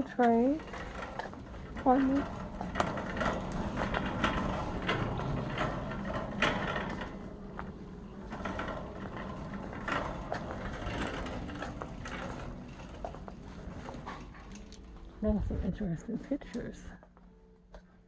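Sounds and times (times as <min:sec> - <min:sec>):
wire shopping cart rattling: 0:00.0 - 0:16.9.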